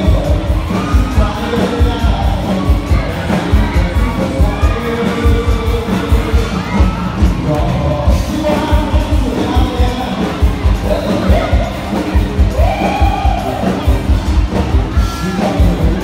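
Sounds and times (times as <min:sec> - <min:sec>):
crowd noise: 0:00.0 - 0:16.0
live band playing: 0:00.0 - 0:16.0
person singing: 0:00.0 - 0:16.0
steady drum beat: 0:00.0 - 0:16.0.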